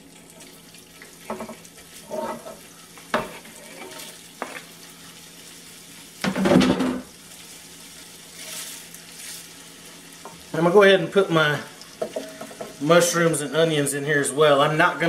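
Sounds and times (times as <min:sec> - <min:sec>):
meatballs sizzling in oil: 0:00.0 - 0:15.0.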